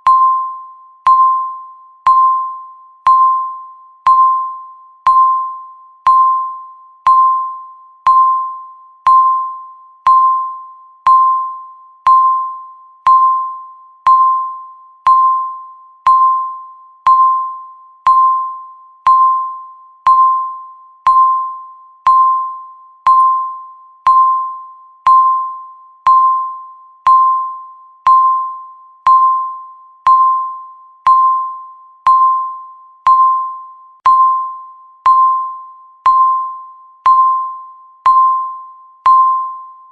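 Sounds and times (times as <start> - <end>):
countdown timer beeping: 0.0 - 39.9.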